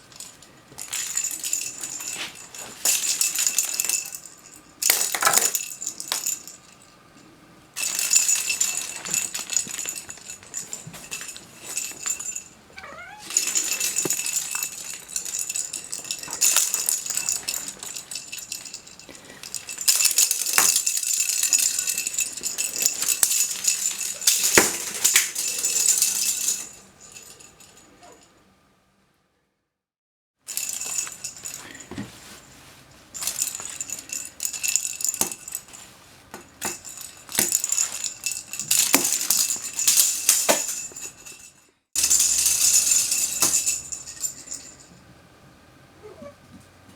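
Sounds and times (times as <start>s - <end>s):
rattle ball rattling: 0.0s - 27.8s, 30.5s - 45.0s.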